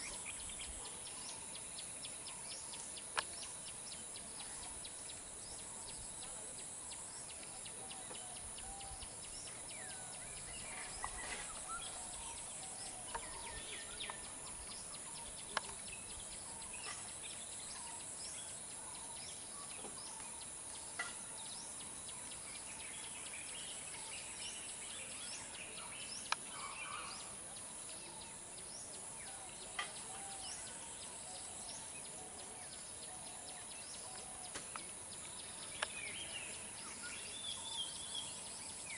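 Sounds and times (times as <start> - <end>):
birds chirping and whistling: 6.9 - 38.9.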